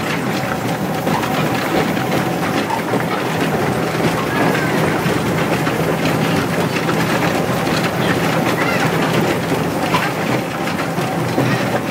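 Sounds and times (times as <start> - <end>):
railcar running on track: 0.0 - 11.9.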